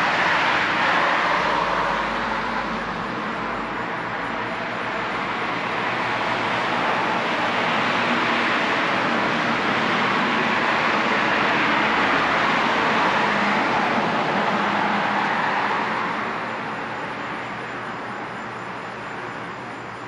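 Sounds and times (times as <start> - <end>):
cars passing on road: 0.0 - 20.0.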